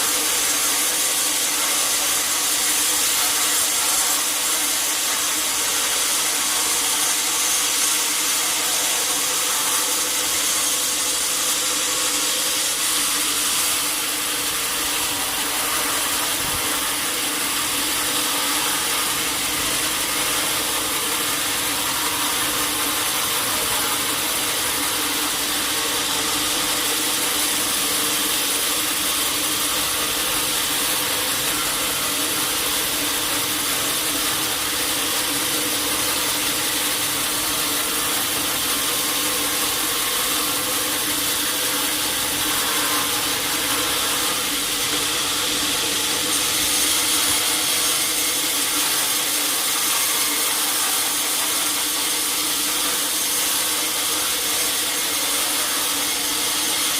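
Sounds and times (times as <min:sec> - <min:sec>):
sawmill machinery whirring hiss: 0:00.0 - 0:56.9.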